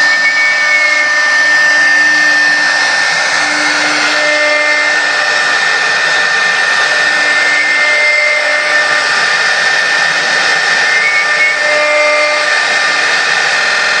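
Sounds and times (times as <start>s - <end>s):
end mill cutting wood: 0.0s - 14.0s
router spindle high whine: 0.0s - 14.0s.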